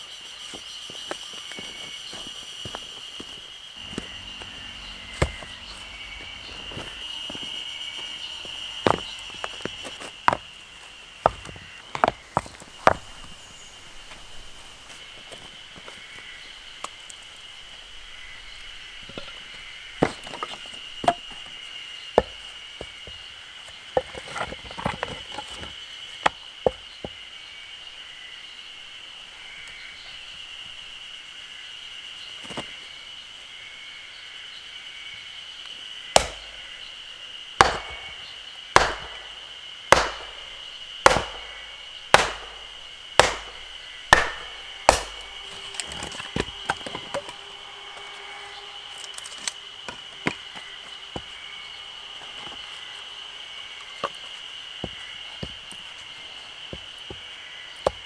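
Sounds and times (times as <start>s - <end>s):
firewood being chopped: 0.4s - 27.2s, 36.1s - 58.0s.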